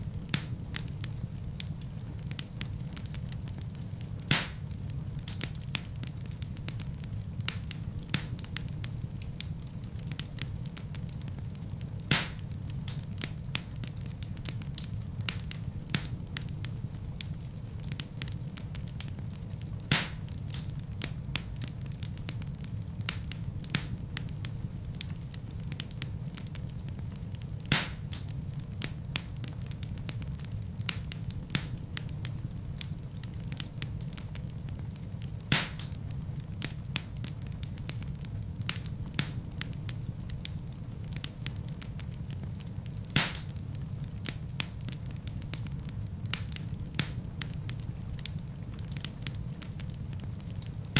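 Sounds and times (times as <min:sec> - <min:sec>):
fire crackling and popping: 0:00.0 - 0:50.9
fire flames rumbling: 0:00.0 - 0:50.9.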